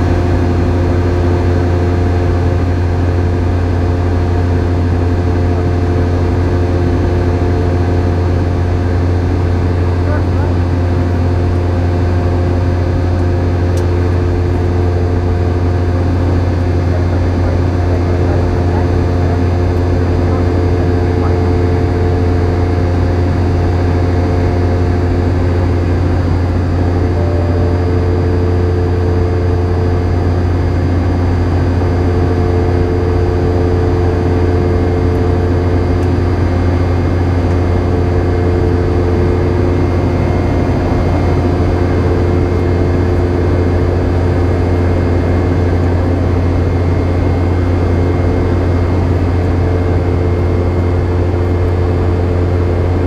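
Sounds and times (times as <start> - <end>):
airplane cabin engine drone: 0.0 - 53.0
steady engine tones: 0.0 - 53.0.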